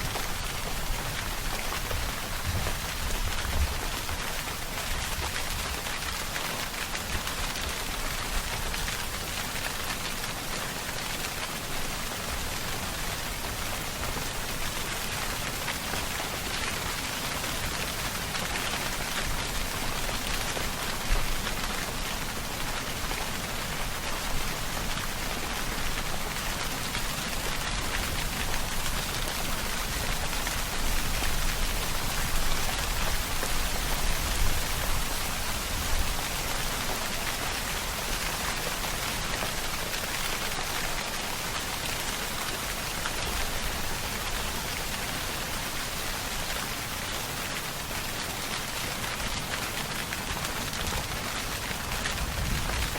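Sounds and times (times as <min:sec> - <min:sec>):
heavy rain pattering: 0:00.0 - 0:52.9.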